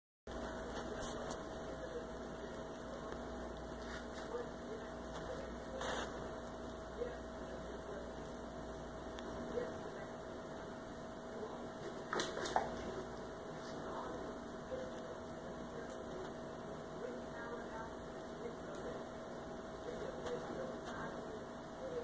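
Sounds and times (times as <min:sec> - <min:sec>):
electrical hum: 0:00.3 - 0:22.0.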